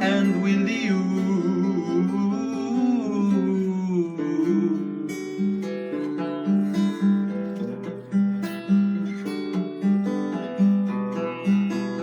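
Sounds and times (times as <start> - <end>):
acoustic guitar picked melody: 0.0 - 12.0.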